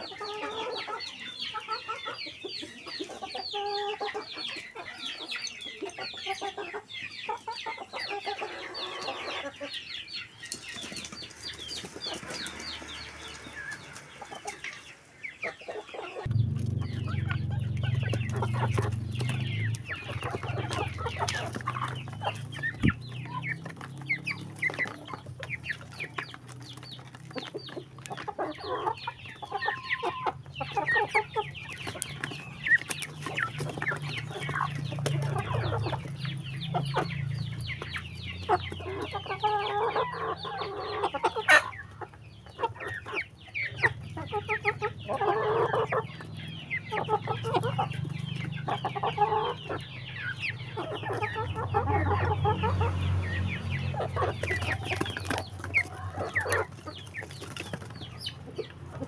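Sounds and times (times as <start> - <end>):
beaks pecking the ground: 0.0 - 59.0
chickens clucking: 0.0 - 59.0.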